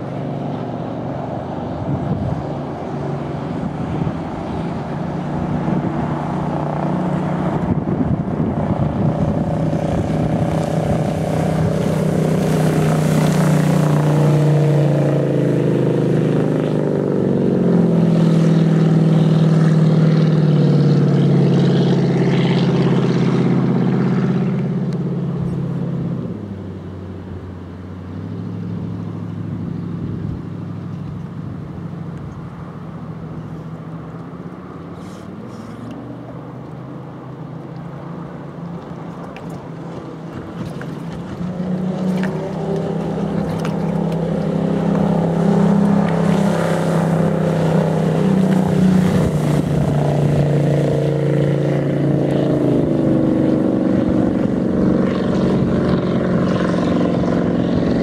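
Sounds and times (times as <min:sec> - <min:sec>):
water hissing off hull: 0:00.0 - 0:24.3, 0:34.6 - 0:57.9
boat engine running: 0:00.0 - 0:58.0.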